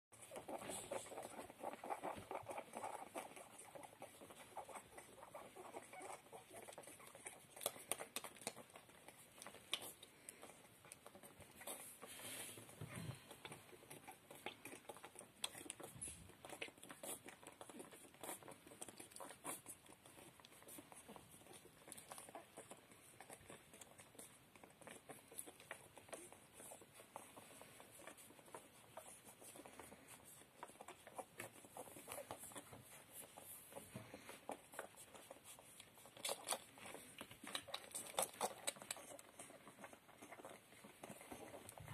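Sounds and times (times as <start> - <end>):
puppies suckling wet smacking: 0.1 - 41.9.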